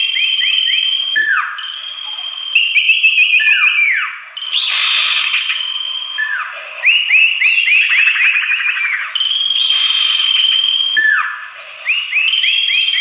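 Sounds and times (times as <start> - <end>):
long high bird whistle: 0.0 - 13.0
upswept bird whistles: 0.0 - 13.0.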